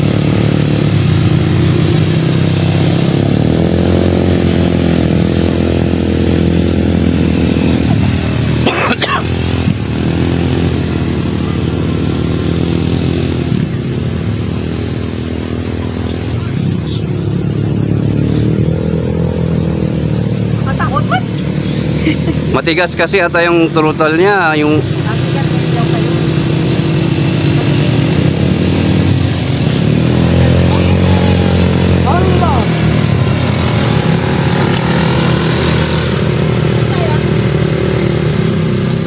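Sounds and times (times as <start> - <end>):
quad bike engines revving: 0.0 - 39.0.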